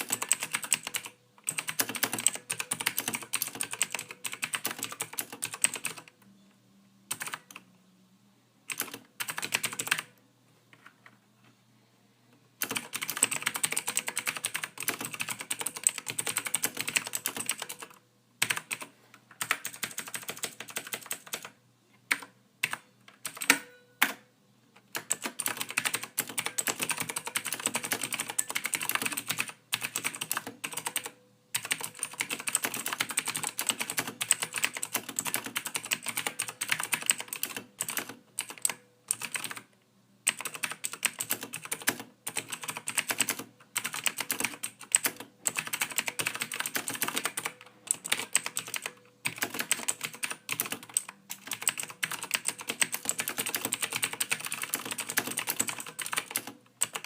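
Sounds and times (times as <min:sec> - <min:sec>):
computer keyboard typing: 0:00.0 - 0:06.1, 0:07.1 - 0:07.6, 0:08.7 - 0:10.1, 0:12.6 - 0:24.2, 0:24.8 - 0:39.7, 0:40.3 - 0:57.0.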